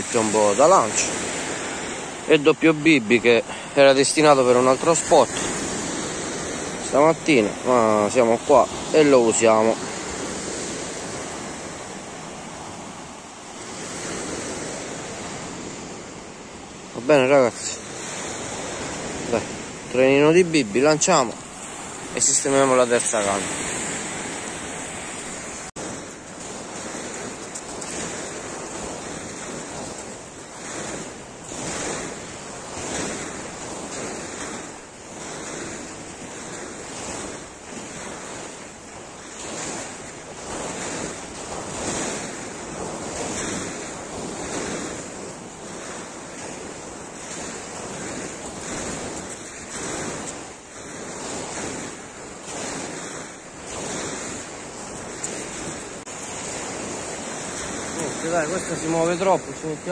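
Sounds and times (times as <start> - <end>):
waves breaking on pebble beach: 0.0 - 59.9
wind on microphone: 0.0 - 59.9.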